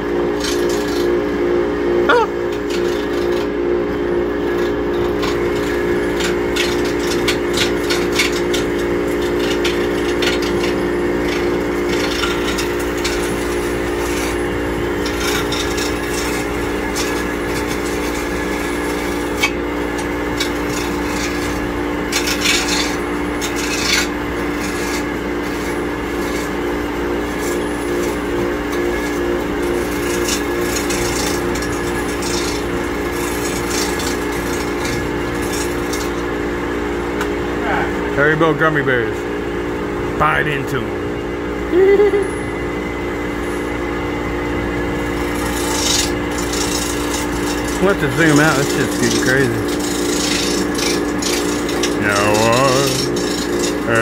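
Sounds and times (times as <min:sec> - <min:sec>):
turning tool scraping wood: 0:00.0 - 0:01.2, 0:02.1 - 0:03.6, 0:04.3 - 0:36.7, 0:44.8 - 0:54.0
lathe motor hum: 0:00.0 - 0:54.0.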